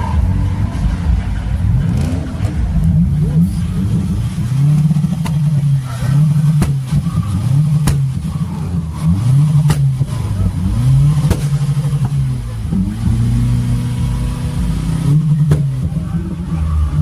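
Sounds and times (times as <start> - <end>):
engine revving and accelerating: 0.0 - 17.0.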